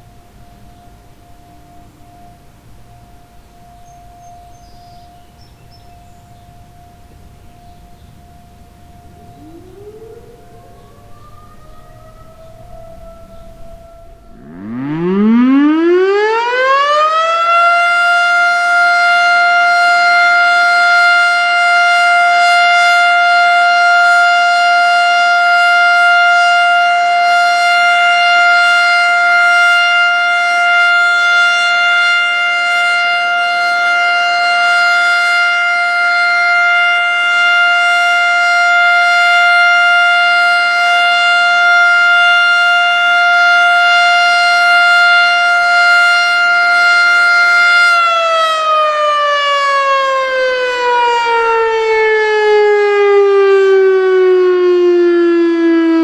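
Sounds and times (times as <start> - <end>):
warning siren winding up: 8.9 - 56.0.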